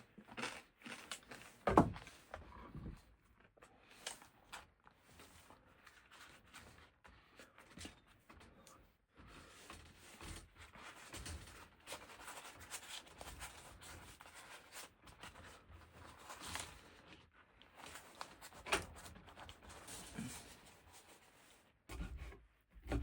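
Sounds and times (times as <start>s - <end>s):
rustling and scraping of objects: 0.0s - 23.0s.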